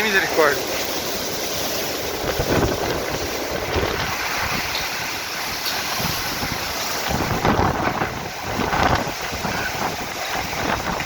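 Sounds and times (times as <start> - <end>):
heavy rain: 0.0 - 11.0
storm wind buffeting microphone: 0.3 - 11.0.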